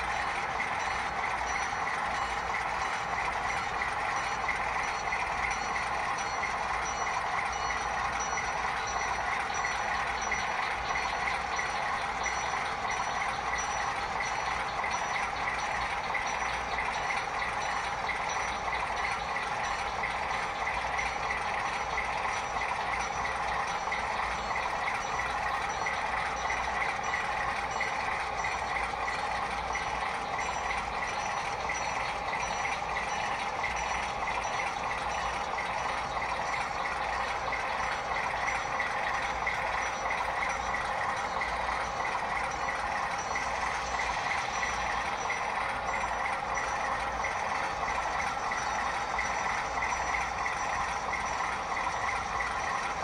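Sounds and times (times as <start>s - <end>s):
model train cars rattling on track: 0.0s - 53.0s.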